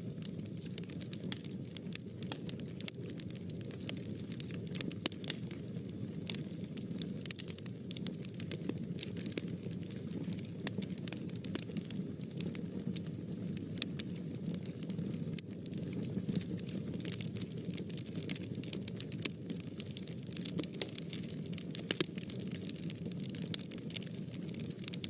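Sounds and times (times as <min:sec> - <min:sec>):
fire crackling and popping: 0:00.0 - 0:25.0
fire rumbling in a fireplace: 0:00.0 - 0:25.0.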